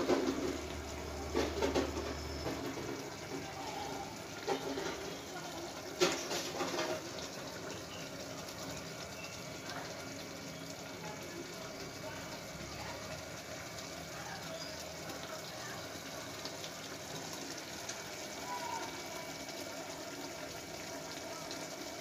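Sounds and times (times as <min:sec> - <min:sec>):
liquid boiling in a pot: 0:00.0 - 0:22.0.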